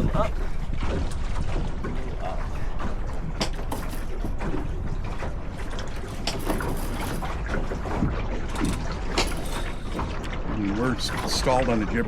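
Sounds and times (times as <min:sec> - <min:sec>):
boat knocks and clicks: 0:00.0 - 0:12.0
water lapping against hull: 0:00.0 - 0:12.0
wind rumbling on microphone: 0:00.0 - 0:12.0.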